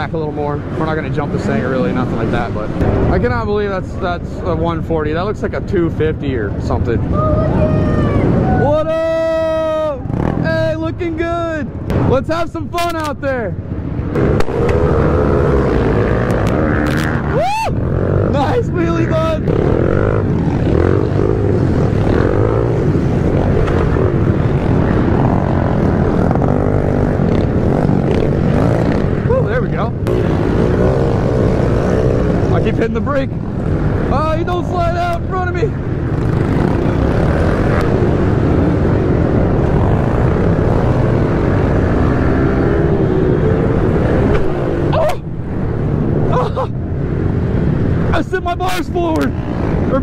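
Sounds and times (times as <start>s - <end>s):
small motorbike engines revving: 0.0s - 11.2s, 13.9s - 50.0s
other pit bikes racing: 0.0s - 50.0s.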